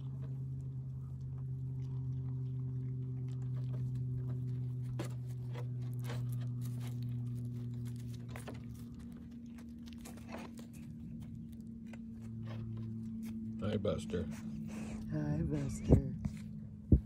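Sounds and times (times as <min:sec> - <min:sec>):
goat crunching twigs: 0:00.0 - 0:15.0
steady low hum: 0:00.0 - 0:17.0.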